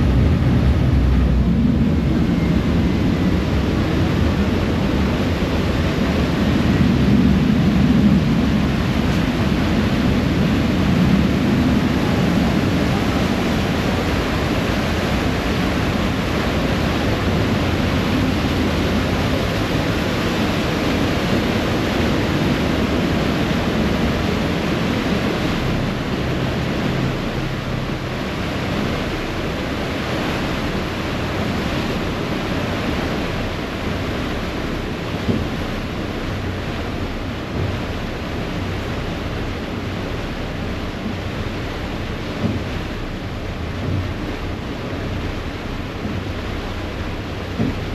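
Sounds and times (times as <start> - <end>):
boat wake churning and rushing: 0.0 - 47.9
low rumble of moving boat: 0.0 - 47.9
wind on microphone: 0.0 - 47.9.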